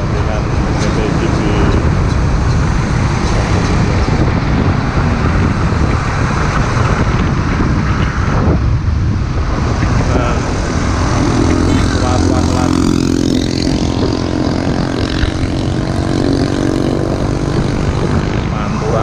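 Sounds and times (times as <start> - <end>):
diesel truck engine rumbling: 0.0 - 19.0
wind buffeting microphone: 0.0 - 19.0.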